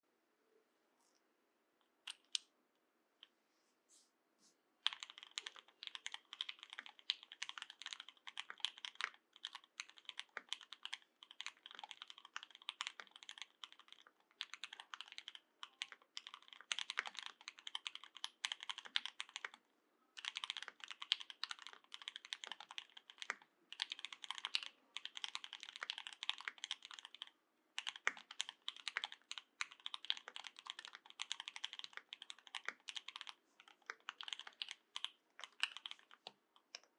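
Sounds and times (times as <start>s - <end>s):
mechanical keyboard typing: 4.8s - 19.6s, 20.2s - 36.9s.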